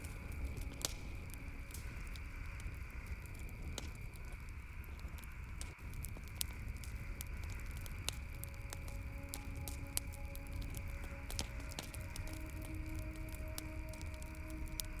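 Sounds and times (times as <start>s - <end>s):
campfire crackling: 0.0s - 15.0s
steady background hiss: 0.0s - 15.0s.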